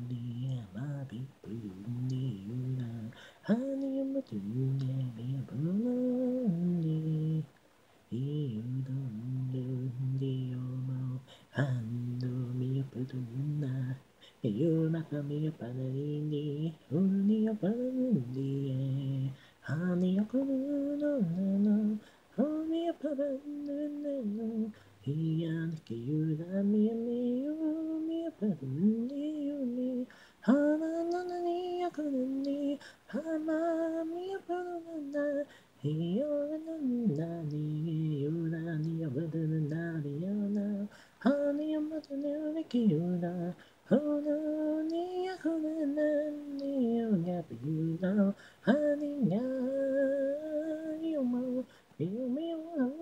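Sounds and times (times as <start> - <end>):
woman singing a cappella: 0.0 - 53.0.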